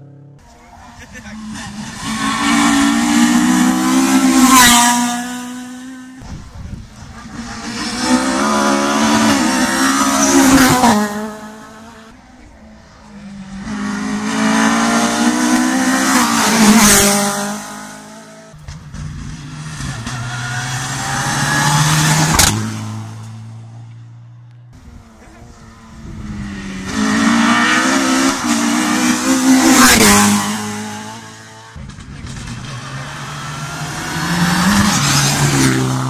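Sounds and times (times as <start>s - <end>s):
rally car engines revving past: 0.0s - 36.0s.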